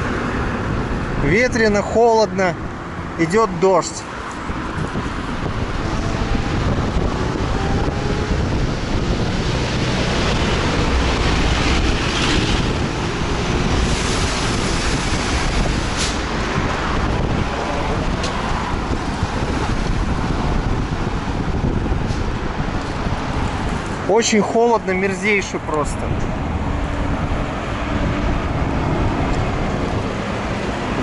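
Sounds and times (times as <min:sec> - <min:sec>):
wind buffeting microphone: 0:00.0 - 0:01.8, 0:04.0 - 0:24.2, 0:25.6 - 0:31.0.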